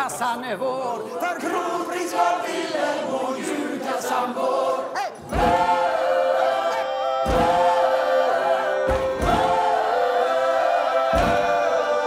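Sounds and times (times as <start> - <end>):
choir singing chords: 0.9 - 12.0.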